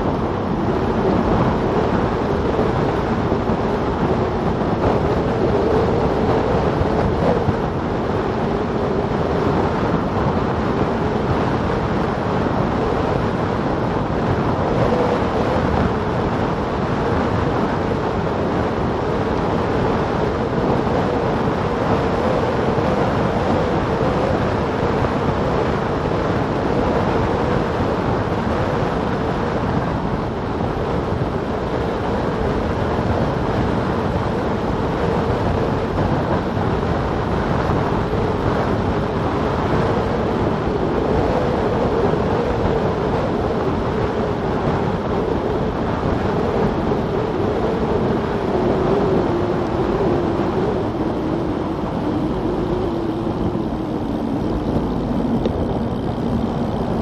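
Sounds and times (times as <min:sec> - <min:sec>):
steady hum: 0:00.0 - 0:57.0
tyre roar on asphalt: 0:00.0 - 0:57.0
wind rushing over microphone: 0:00.0 - 0:57.0.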